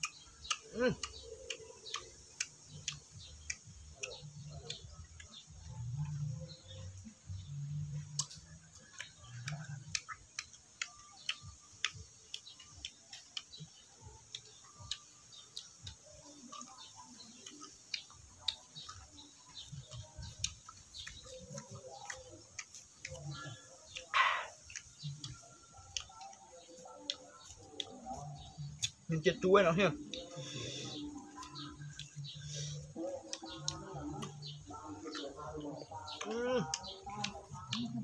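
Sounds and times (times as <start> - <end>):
person chewing and lip smacking: 0.0 - 38.0
soft low murmurs: 0.0 - 38.0.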